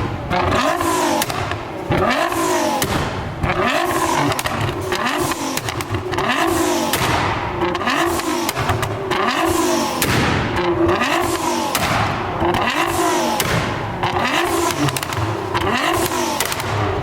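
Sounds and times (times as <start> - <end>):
car engine revving: 0.0 - 17.0
exhaust pops and crackles: 0.0 - 17.0.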